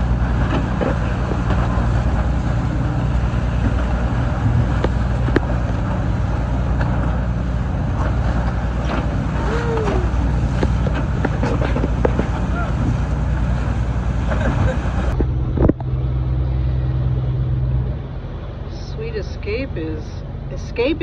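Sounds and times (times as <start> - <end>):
boat engine droning: 0.0 - 21.0
wind and water rushing: 0.0 - 21.0.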